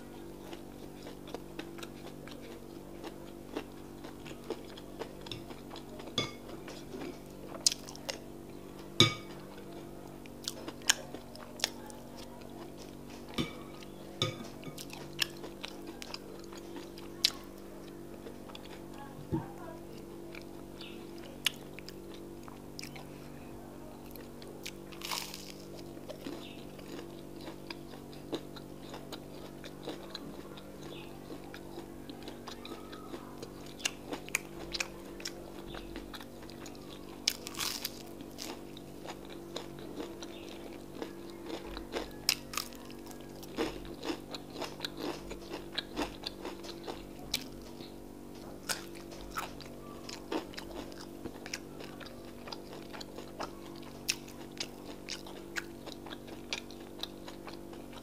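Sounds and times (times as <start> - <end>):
crunchy chewing of fritters: 0.0 - 58.0
steady low hum: 0.0 - 58.0.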